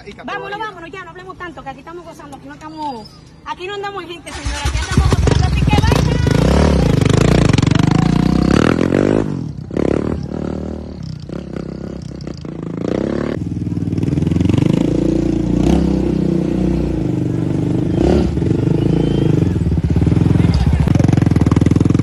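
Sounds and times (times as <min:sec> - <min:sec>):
quad bike engine revving: 0:04.3 - 0:22.0.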